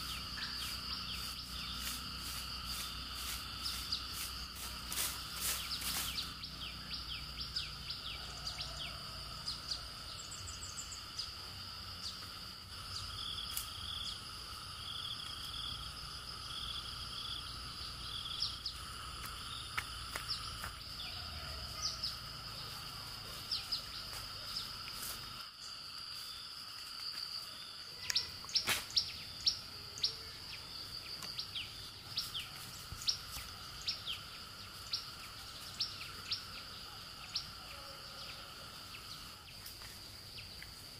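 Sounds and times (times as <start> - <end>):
insect drone: 0.0 - 40.9.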